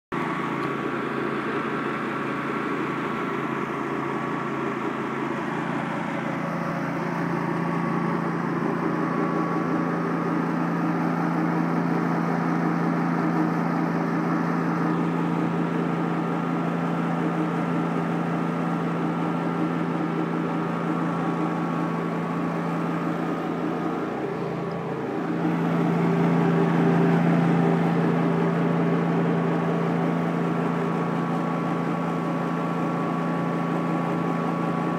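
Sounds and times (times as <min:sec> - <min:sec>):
pressure washer engine hum: 0:00.1 - 0:34.9.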